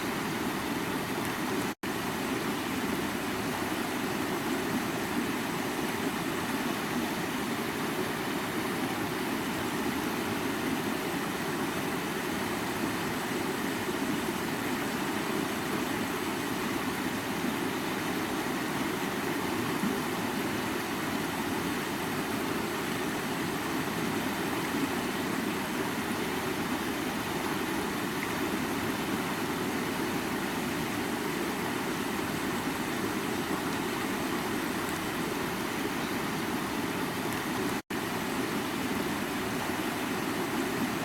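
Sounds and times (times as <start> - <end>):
creek water rushing: 0.0 - 41.0.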